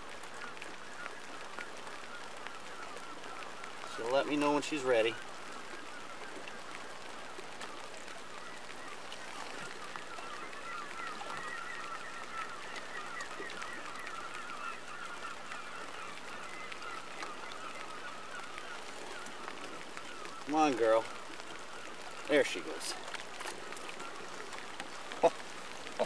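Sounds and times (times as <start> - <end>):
flock of birds chattering: 0.0 - 26.0.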